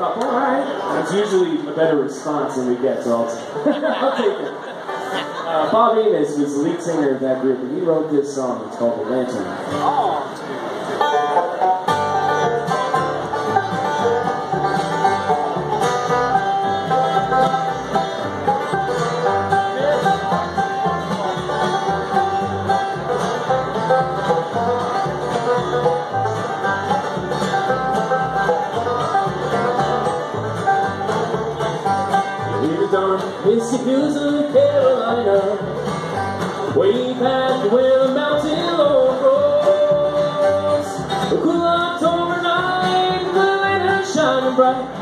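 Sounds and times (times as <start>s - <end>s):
bluegrass band playing: 0.0s - 45.0s.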